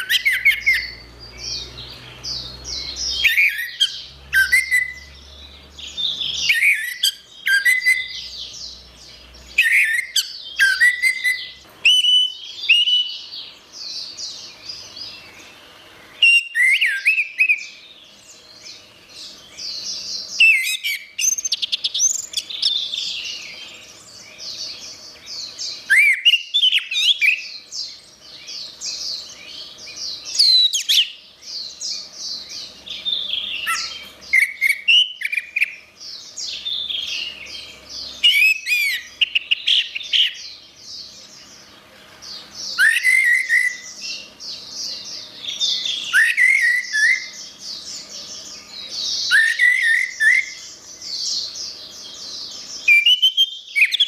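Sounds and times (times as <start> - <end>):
sweeping whistled bird phrases: 0.0 - 54.0
thrush singing chirps and trills: 0.0 - 54.0.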